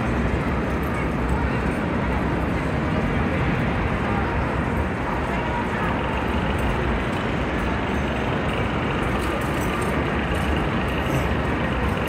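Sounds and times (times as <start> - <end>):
low rumbling indoor hall noise: 0.0 - 12.0.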